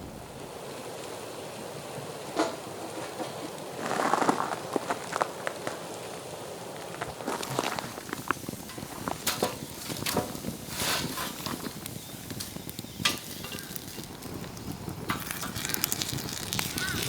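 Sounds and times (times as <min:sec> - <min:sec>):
burning wood crackling: 0:00.0 - 0:17.0
skewers sizzling over fire: 0:00.0 - 0:17.0.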